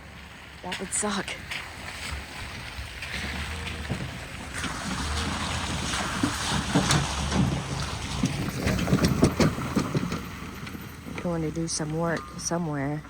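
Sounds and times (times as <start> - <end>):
truck engine rumble: 0.0 - 13.0
knocks and rattles: 0.7 - 13.0.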